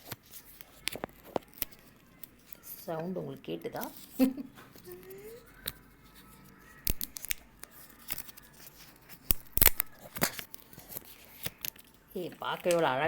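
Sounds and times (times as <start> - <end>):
paper and plastic tearing: 0.0 - 13.0.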